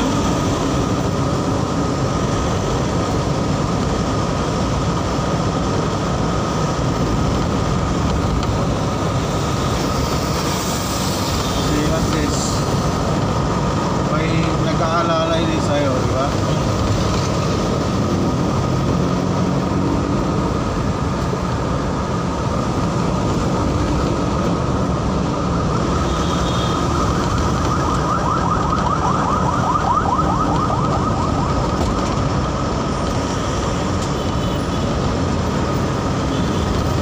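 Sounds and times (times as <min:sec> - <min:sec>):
vehicle road and engine noise: 0:00.0 - 0:37.0.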